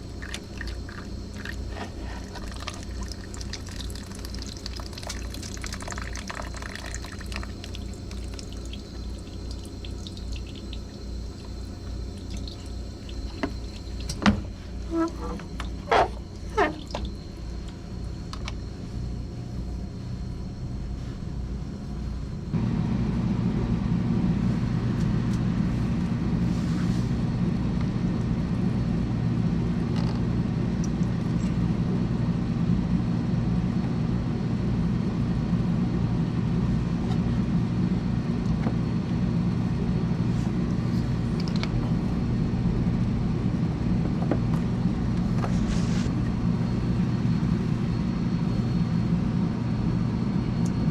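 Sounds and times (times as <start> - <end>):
low hum: 0.0 - 50.9
motor-driven machine hum: 0.0 - 50.9.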